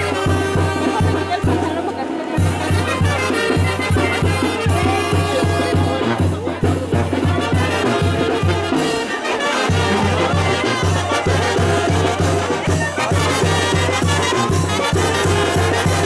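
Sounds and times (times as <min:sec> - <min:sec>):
trumpets playing melody: 0:00.0 - 0:16.0
tuba and bass drum beat: 0:00.0 - 0:16.0.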